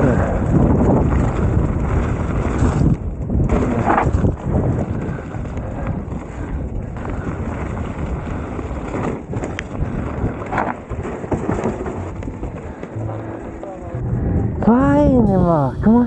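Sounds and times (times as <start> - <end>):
bike rattles: 0.0 - 13.5
wind rushing over microphone: 0.0 - 15.4.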